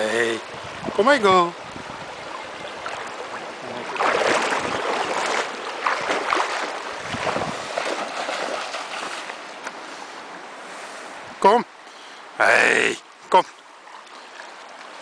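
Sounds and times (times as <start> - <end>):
water splashing from wading: 0.0 - 10.6, 13.4 - 15.0
stream rushing: 0.0 - 15.0.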